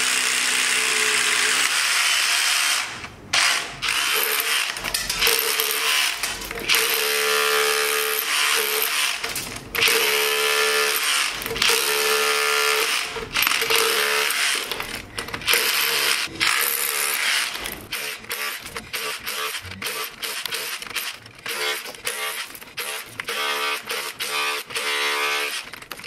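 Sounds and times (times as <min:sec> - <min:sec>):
rotary hammer chiselling concrete: 0:00.0 - 0:26.0.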